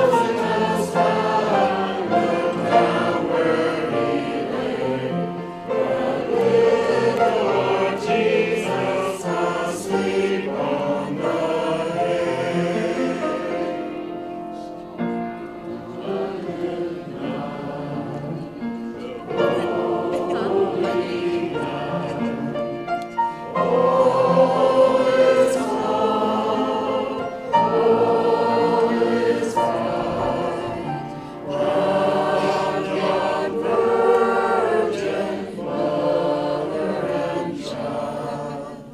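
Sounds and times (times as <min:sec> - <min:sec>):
group singing in harmony: 0:00.0 - 0:38.9.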